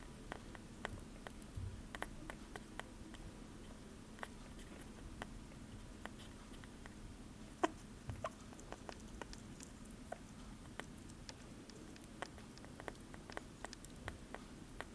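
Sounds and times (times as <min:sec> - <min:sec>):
small animal chewing: 0:00.0 - 0:14.9.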